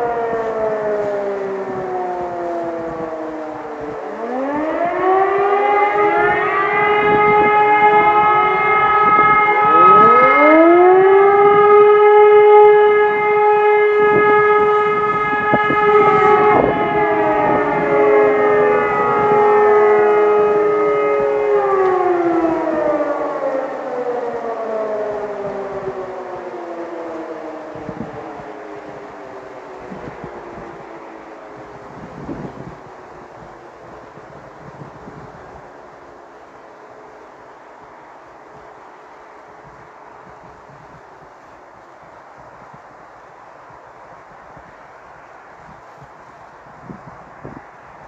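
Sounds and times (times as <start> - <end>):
civil defence sirens winding: 0.0 - 48.0.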